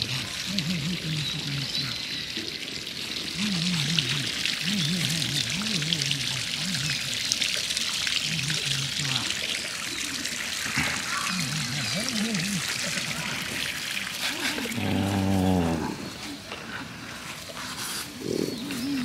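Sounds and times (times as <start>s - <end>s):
water pouring: 0.0s - 19.0s.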